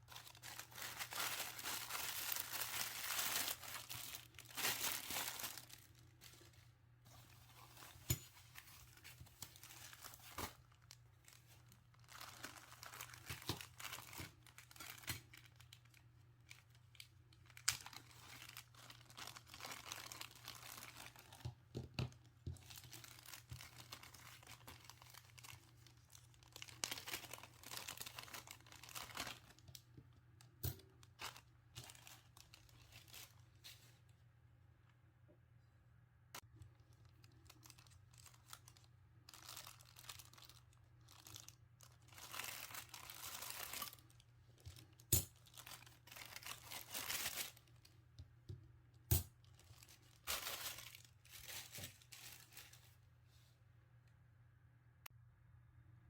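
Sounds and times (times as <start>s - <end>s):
plastic and paper packaging crinkling: 0.0s - 30.0s, 30.7s - 34.1s, 36.4s - 48.0s, 49.3s - 53.1s.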